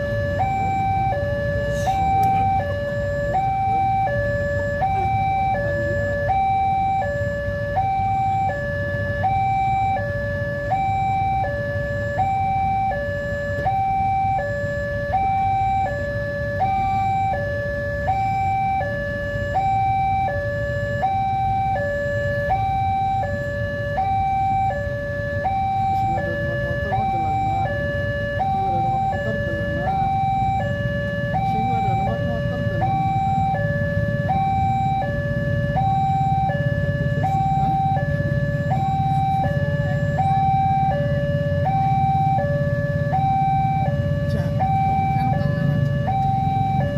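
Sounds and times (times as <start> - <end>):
level crossing two-tone alarm: 0.0 - 46.9.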